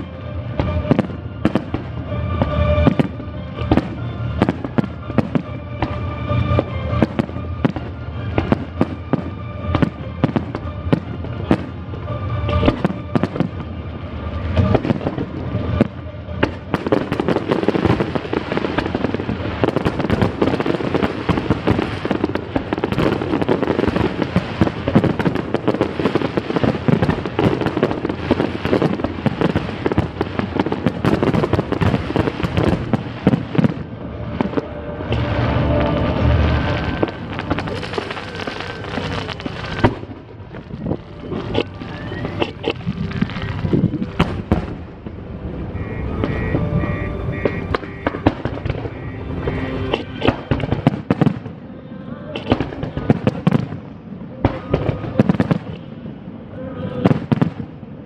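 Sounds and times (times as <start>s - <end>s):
fireworks bangs and crackling: 0.0s - 51.7s, 52.4s - 56.4s, 57.0s - 58.0s.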